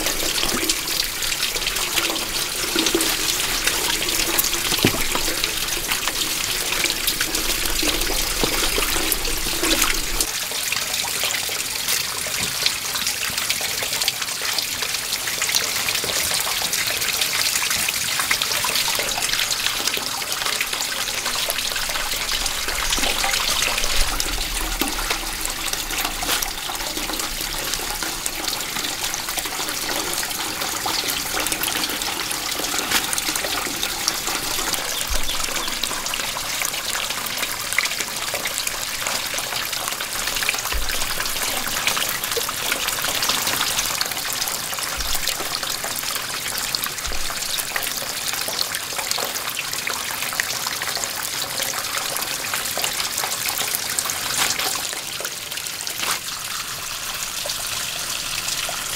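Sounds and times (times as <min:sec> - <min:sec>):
water trickling and splashing: 0:00.0 - 0:58.9.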